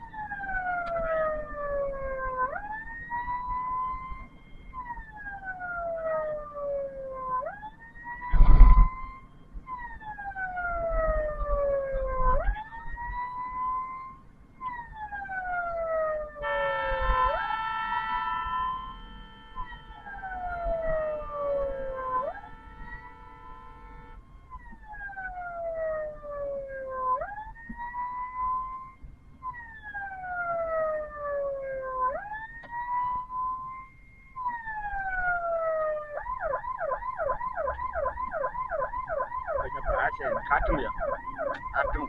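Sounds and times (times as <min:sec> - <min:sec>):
steady blaring tone: 0:00.0 - 0:14.7, 0:15.4 - 0:24.6, 0:31.8 - 0:42.0
ambulance siren wailing: 0:00.0 - 0:42.0.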